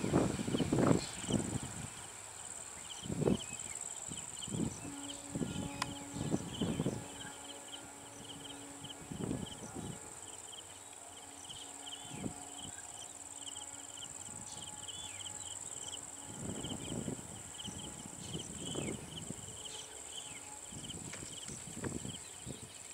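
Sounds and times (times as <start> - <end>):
insects buzzing and chirping: 0.0 - 22.9.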